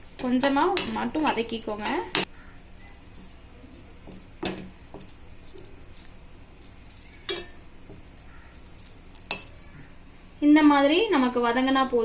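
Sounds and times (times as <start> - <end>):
utensil clinking and scraping pan: 0.0 - 9.6.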